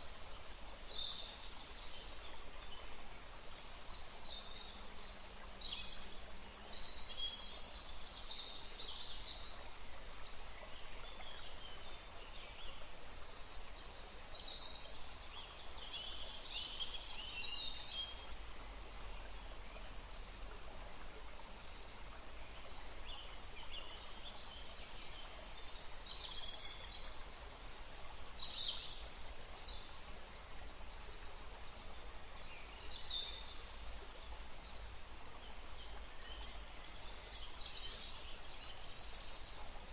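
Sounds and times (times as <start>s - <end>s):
rushing water: 0.0s - 39.9s
wind: 0.0s - 39.9s.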